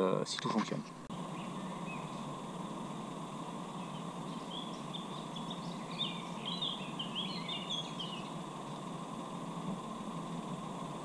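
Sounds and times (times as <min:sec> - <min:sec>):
constant background hum: 0:00.0 - 0:11.0
songbird twittering: 0:01.1 - 0:10.6.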